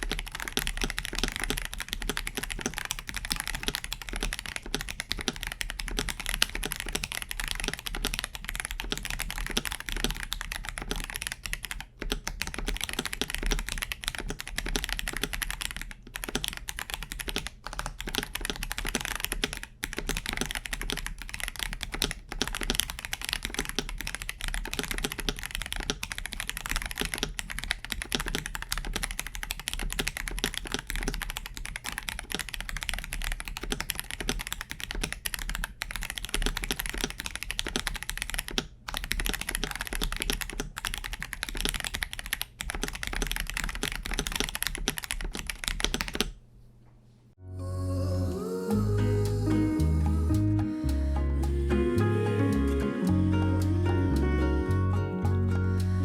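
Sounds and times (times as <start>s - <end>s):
fast typing on mechanical keyboard: 0.0s - 46.4s.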